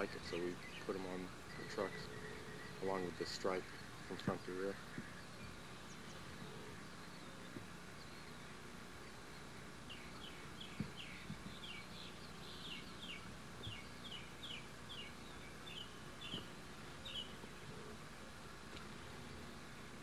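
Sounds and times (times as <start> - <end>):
bird chirping: 0.0 - 18.4
low hiss: 0.0 - 20.0.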